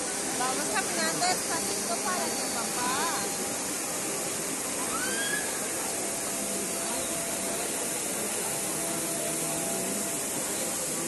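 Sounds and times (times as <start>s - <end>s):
faint crowd voices: 0.0s - 11.0s
fountain water cascading: 0.0s - 11.0s.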